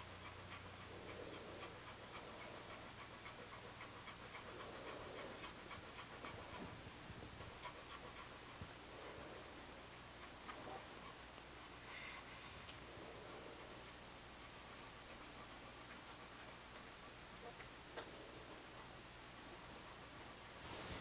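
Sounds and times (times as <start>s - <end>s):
puppy breathing and snuffling: 0.0s - 19.0s, 19.6s - 21.0s.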